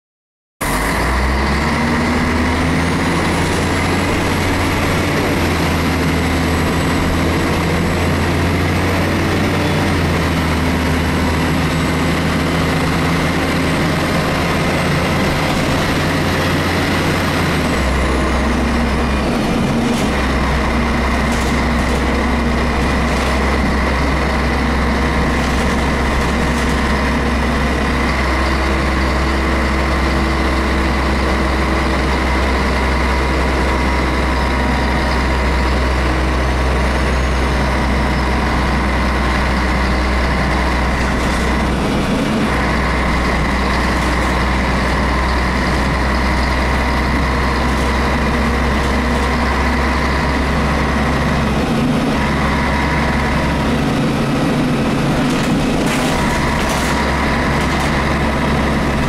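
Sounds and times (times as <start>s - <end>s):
bus diesel engine droning: 0.6s - 59.0s.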